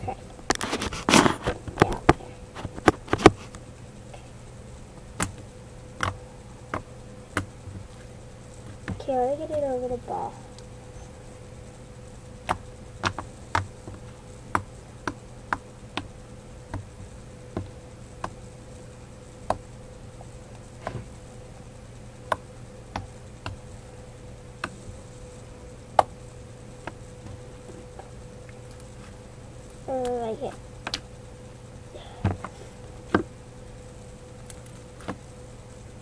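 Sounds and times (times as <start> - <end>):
electrical hum: 0.0 - 36.0.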